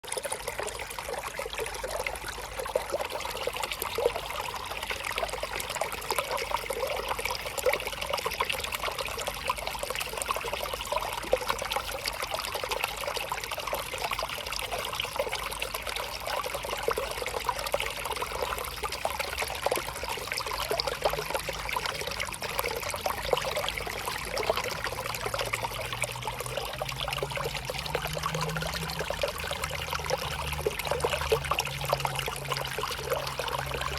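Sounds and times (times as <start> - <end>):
river trickling and burbling: 0.0 - 33.9.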